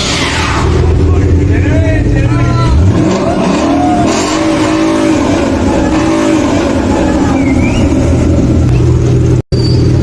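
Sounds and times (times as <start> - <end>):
performance engine revving and rumbling: 0.0 - 10.0.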